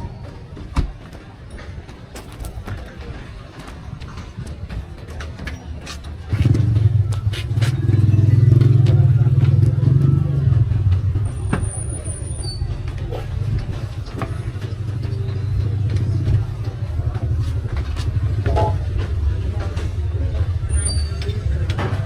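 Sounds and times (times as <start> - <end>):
street knocks and clatter: 0.0 - 22.0
vehicle engine rumbling: 1.9 - 22.0.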